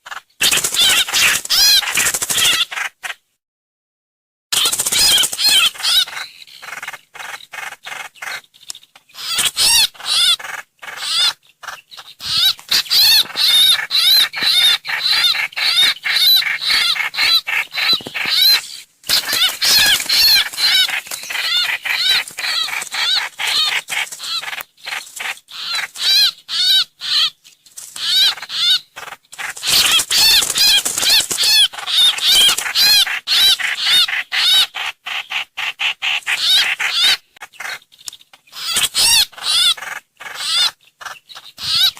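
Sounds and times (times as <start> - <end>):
bird chattering calls: 0.0 - 3.2, 4.6 - 41.9.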